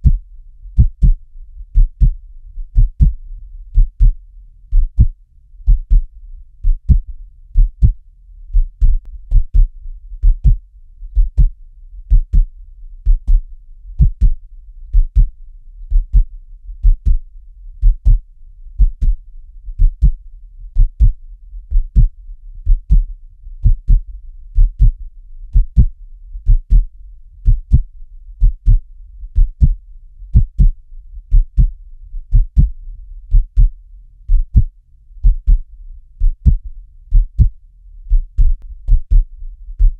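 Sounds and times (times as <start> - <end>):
heartbeat double thump: 0.0 - 0.2, 0.8 - 1.2, 1.8 - 8.0, 8.6 - 10.6, 11.2 - 13.4, 14.0 - 17.2, 17.8 - 18.2, 18.8 - 19.2, 19.8 - 20.2, 20.8 - 22.1, 22.7 - 24.0, 24.6 - 28.8, 29.4 - 31.7, 32.3 - 33.7, 34.3 - 39.9
faint low hum: 0.0 - 39.9.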